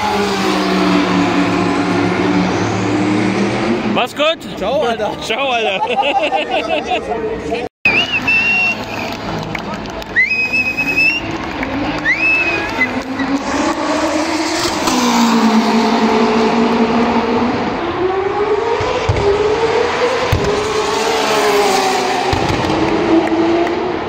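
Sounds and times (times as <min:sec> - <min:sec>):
race car engines at full throttle: 0:00.0 - 0:24.0.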